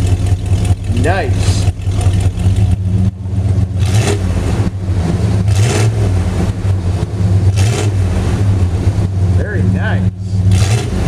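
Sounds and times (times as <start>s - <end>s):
engine exhaust rumble: 0.0s - 11.0s.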